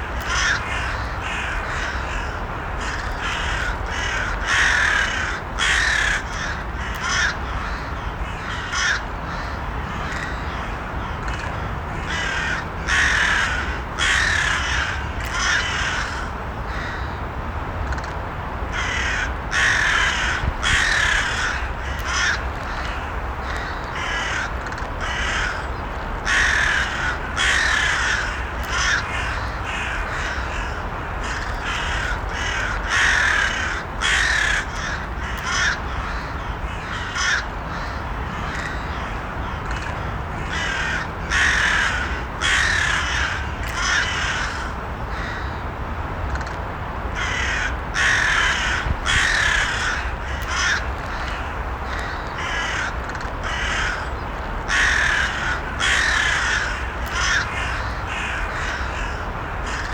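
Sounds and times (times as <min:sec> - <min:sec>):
crows cawing: 0:00.0 - 0:17.2, 0:18.7 - 0:45.6, 0:46.3 - 0:59.9.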